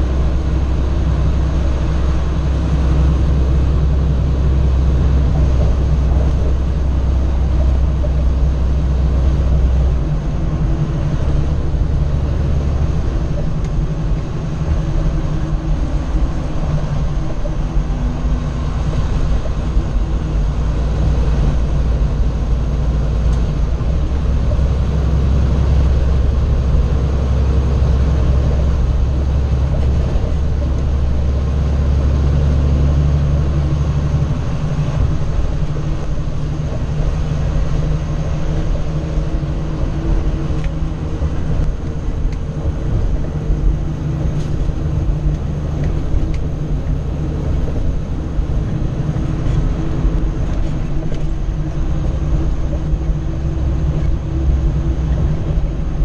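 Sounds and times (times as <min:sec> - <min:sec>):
diesel engine droning: 0:00.0 - 0:56.0
tyre and road noise: 0:00.0 - 0:56.0.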